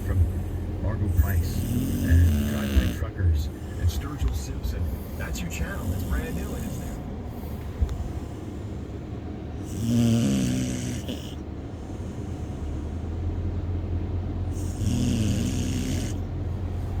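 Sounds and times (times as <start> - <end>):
dog snoring: 0.0 - 13.2, 14.5 - 17.0
car humming on road: 0.0 - 17.0.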